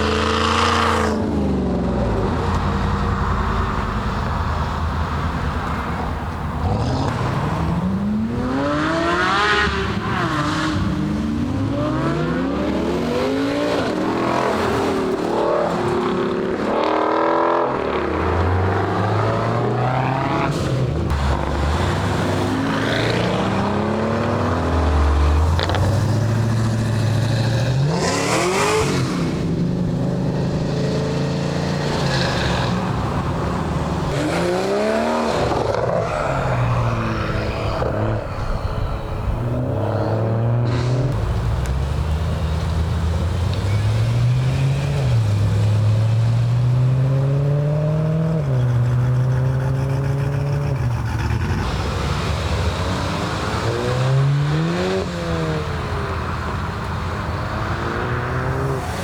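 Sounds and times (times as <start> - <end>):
cars accelerating and passing: 0.0 - 59.0.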